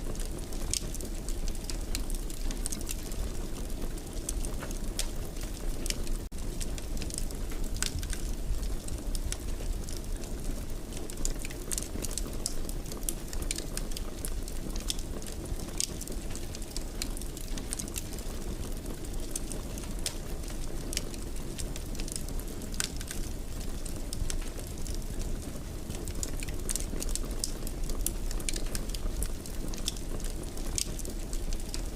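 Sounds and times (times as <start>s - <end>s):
wood fire burning: 0.0s - 31.9s
fire popping and snapping: 0.1s - 31.9s.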